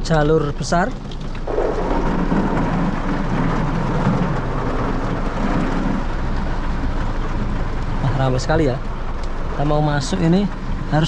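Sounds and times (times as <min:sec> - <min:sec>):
heavy rain on car roof: 0:00.0 - 0:11.0
steady low rumble: 0:00.0 - 0:11.0.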